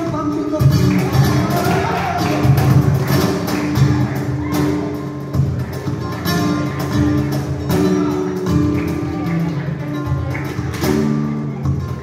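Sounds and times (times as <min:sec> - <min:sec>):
flamenco acoustic guitar: 0:00.0 - 0:12.0.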